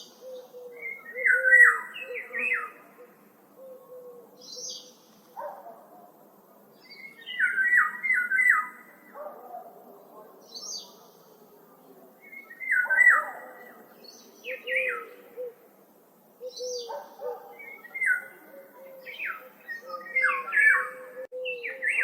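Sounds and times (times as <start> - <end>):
songbirds singing: 0.0 - 22.0
wind in trees: 0.0 - 22.0.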